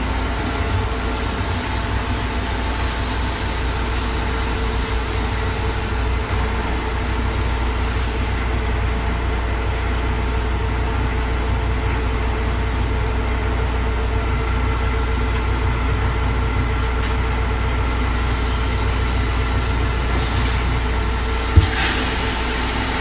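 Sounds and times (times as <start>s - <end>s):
machine droning: 0.0s - 23.0s.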